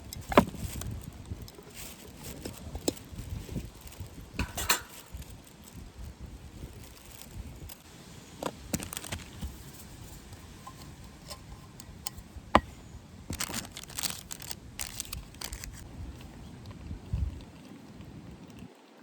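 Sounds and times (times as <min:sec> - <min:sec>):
rustling: 0:00.0 - 0:18.7.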